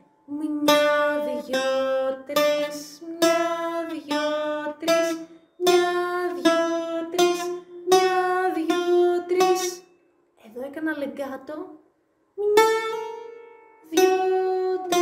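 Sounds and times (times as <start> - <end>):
bouzouki playing slow melody: 0.0 - 10.0, 12.4 - 15.0.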